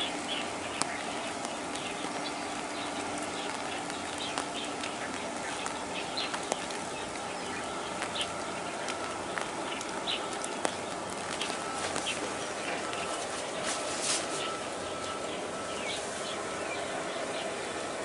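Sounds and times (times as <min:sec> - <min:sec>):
steady outdoor noise: 0:00.0 - 0:18.0.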